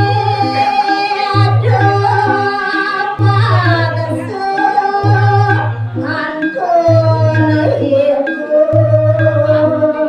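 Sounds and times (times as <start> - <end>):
instrumental accompaniment with low pulse: 0.0 - 10.0
woman singing: 0.0 - 10.0.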